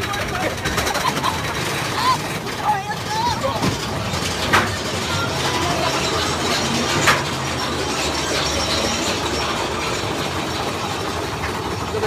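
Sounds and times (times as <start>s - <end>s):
roller coaster rattling rumble: 0.0s - 12.0s.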